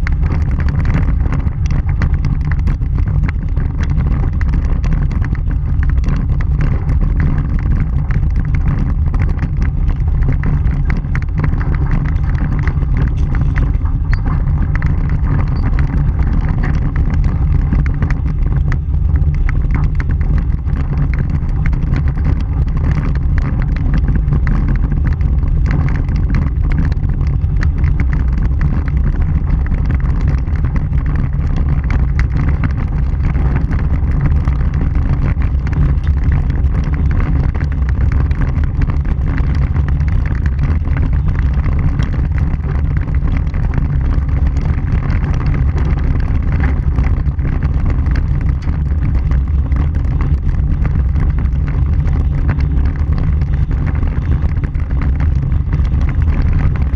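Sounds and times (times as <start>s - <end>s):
small gravel ticks: 0.0s - 56.9s
tyres rumbling on gravel: 0.0s - 56.9s.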